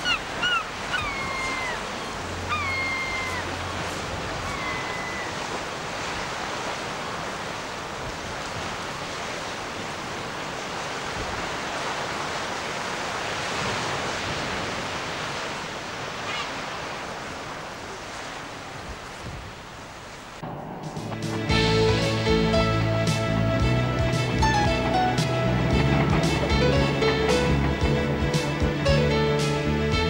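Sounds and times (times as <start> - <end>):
surf washing on a shore: 0.0 - 30.0.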